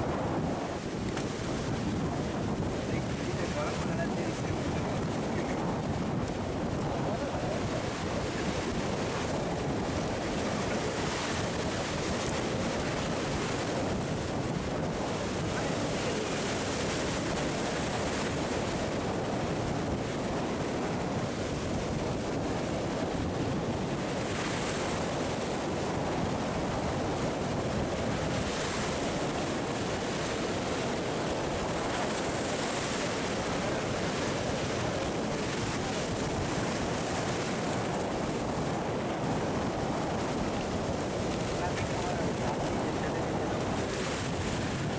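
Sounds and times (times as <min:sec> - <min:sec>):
surf breaking over rocks: 0:00.0 - 0:44.9.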